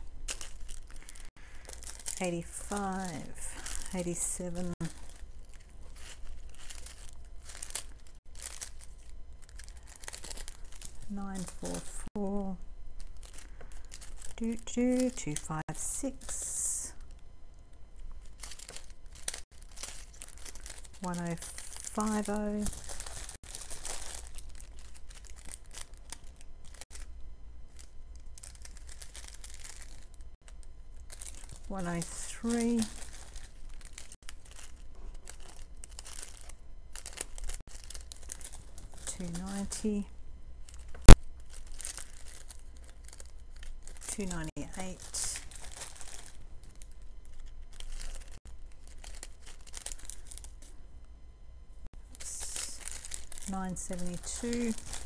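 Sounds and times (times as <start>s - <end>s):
plastic bags crinkling: 0.0s - 17.2s, 18.0s - 50.8s, 52.0s - 55.0s
steady low hum: 0.0s - 55.0s.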